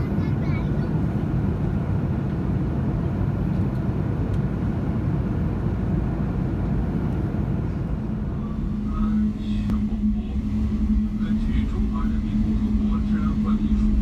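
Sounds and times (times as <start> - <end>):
airliner engine roar: 0.0 - 14.0
low hum: 2.0 - 14.0.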